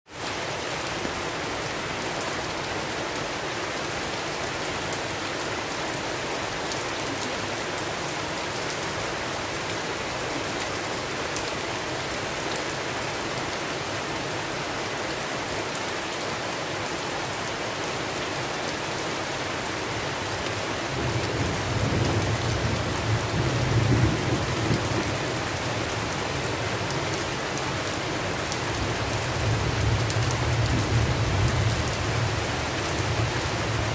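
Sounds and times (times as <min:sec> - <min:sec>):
rain falling on a surface: 0:00.1 - 0:33.9.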